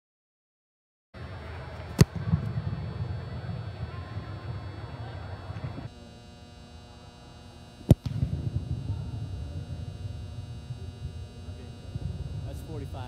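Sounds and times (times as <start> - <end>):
steady low hum: 1.2 - 13.0.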